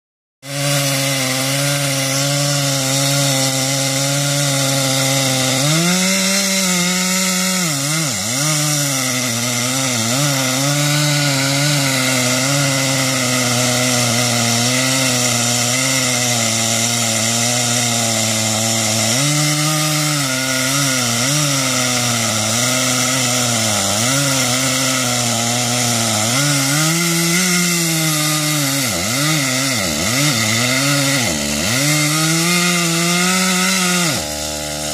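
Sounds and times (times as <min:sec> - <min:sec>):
chainsaw cutting wood: 0:00.4 - 0:34.9.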